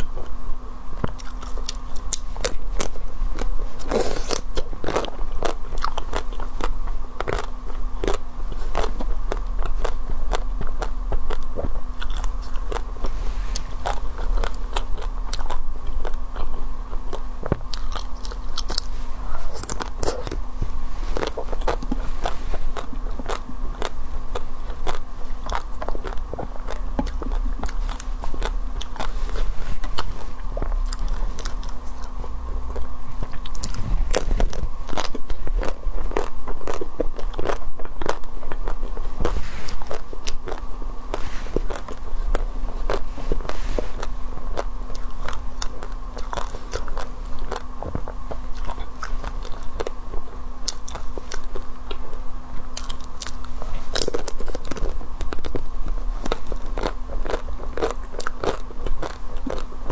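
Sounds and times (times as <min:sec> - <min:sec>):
biting and chewing ice cream: 0:00.0 - 0:59.9.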